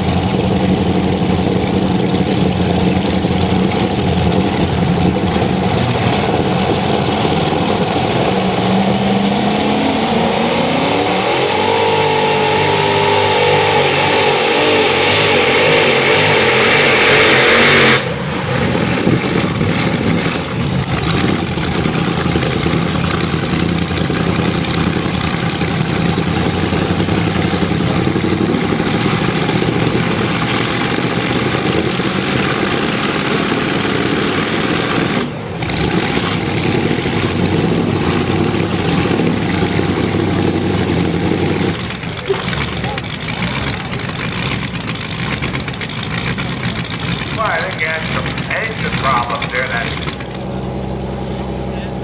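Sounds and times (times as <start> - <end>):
pulling tractor engines revving: 0.0 - 52.0.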